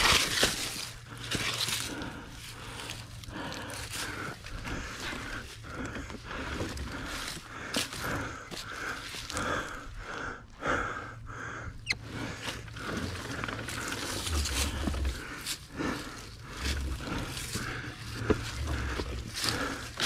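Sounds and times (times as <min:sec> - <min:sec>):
person breathing hard: 0:00.0 - 0:20.0.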